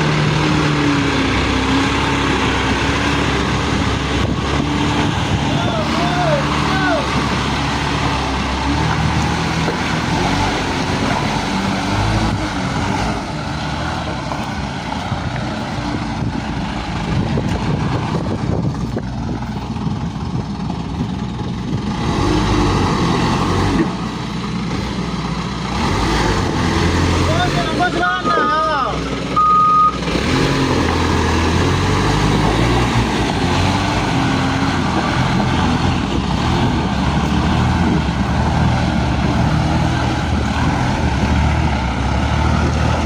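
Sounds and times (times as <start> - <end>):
diesel truck engine revving: 0.0 - 43.0.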